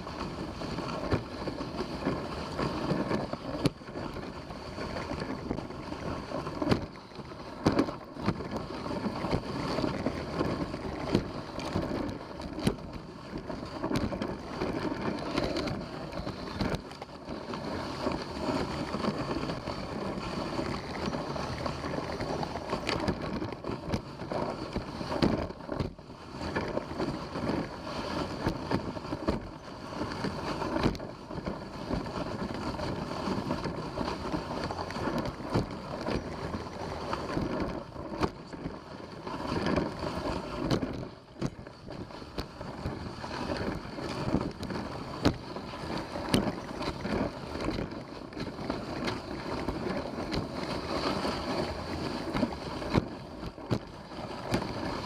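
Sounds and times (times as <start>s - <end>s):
sled running on trail: 0.0s - 55.0s
wind on microphone: 0.0s - 55.0s.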